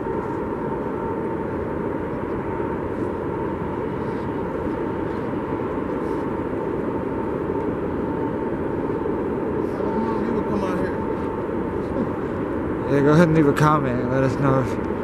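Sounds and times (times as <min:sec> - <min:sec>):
faint constant tone: 0:00.0 - 0:15.0
steady rumble and hiss: 0:00.0 - 0:15.0.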